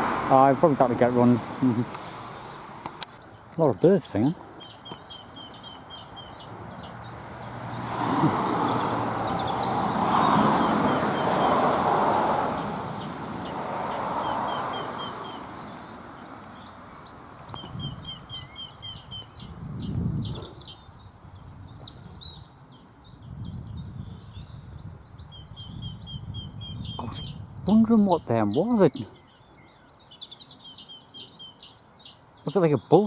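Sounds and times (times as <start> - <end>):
small birds calling and singing: 0.0 - 33.0.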